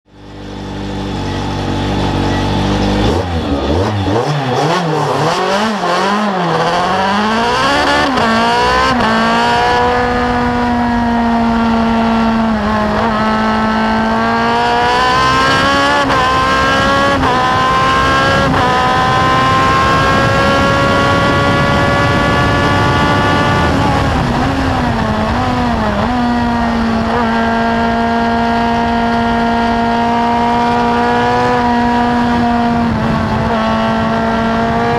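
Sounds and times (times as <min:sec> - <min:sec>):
wind and road noise: 0:00.0 - 0:34.9
race car engine revving: 0:00.2 - 0:34.9.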